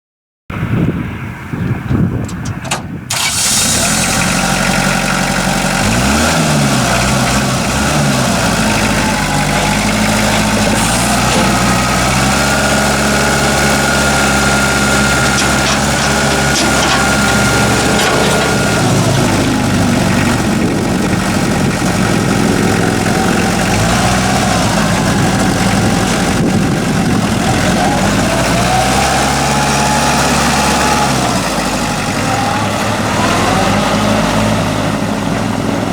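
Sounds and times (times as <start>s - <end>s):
tractor diesel engine running: 0.6s - 35.9s.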